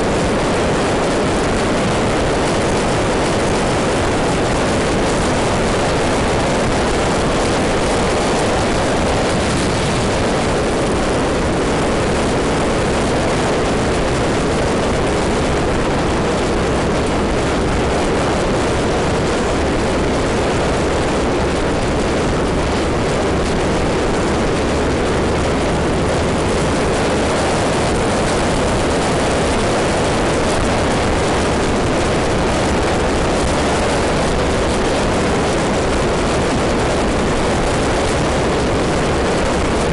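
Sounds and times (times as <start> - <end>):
scooter engine: 0.0 - 39.9
wind on microphone: 0.0 - 39.9.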